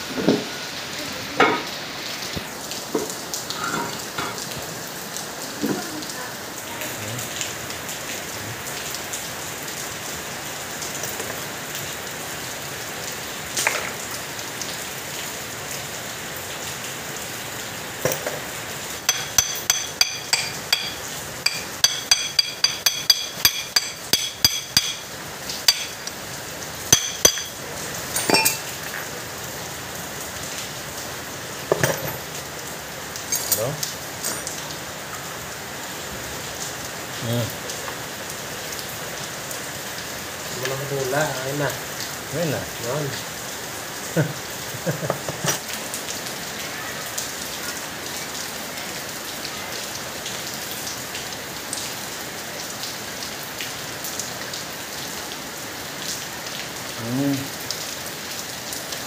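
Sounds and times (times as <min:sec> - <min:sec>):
rain hissing: 0:00.0 - 0:59.0.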